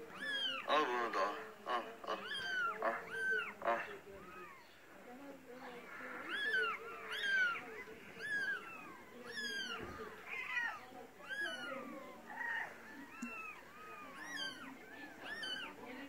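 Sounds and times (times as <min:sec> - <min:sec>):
cats meowing: 0:00.0 - 0:00.9, 0:02.2 - 0:04.8, 0:05.7 - 0:16.0.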